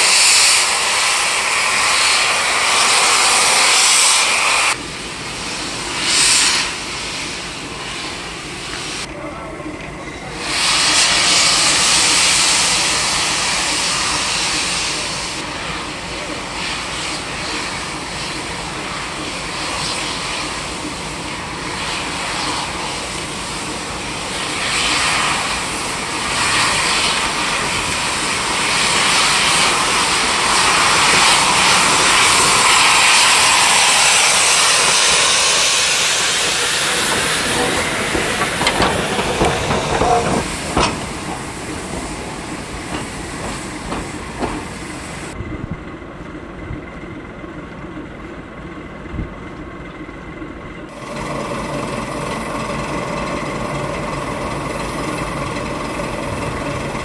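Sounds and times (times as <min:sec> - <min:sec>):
steam locomotive hissing: 0:00.0 - 0:46.1, 0:50.0 - 0:57.0.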